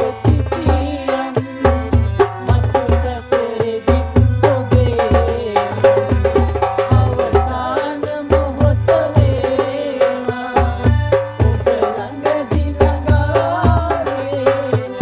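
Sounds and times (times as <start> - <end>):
band playing calypso song: 0.0 - 15.0.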